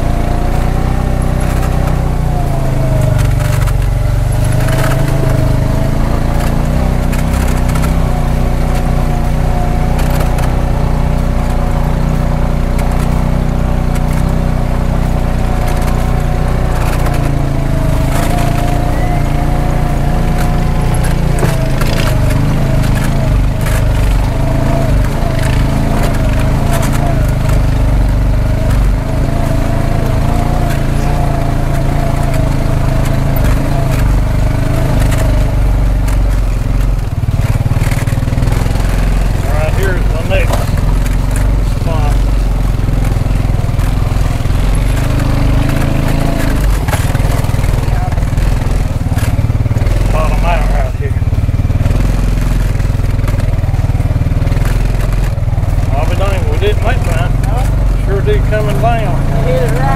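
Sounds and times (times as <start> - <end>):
knocks and rattles: 0.0 - 59.9
vehicle engine running: 0.0 - 59.9.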